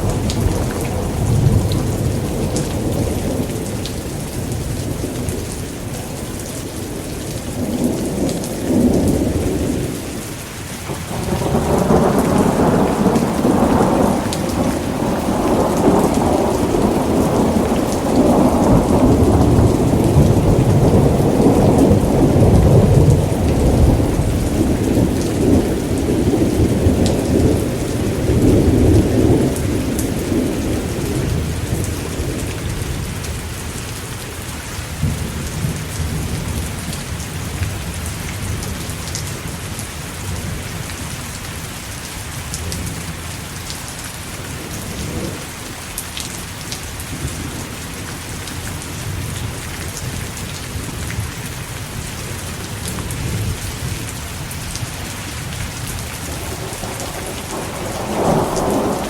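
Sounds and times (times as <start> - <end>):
low rumbles of thunder: 0.0 - 10.1, 10.9 - 33.8, 35.0 - 39.5, 44.4 - 45.8, 47.0 - 59.0
heavy rain: 0.0 - 59.0.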